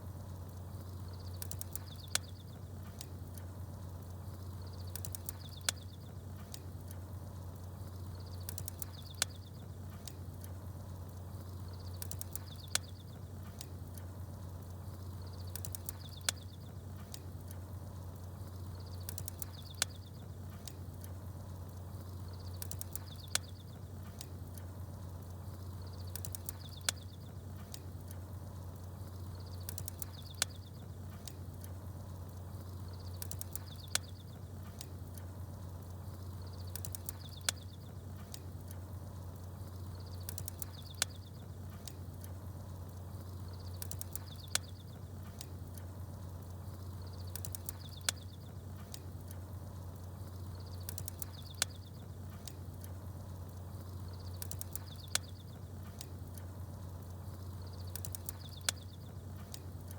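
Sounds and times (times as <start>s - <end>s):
campfire crackling: 0.0s - 59.9s
steady low hum: 0.0s - 59.9s
small birds chirping: 0.1s - 59.9s.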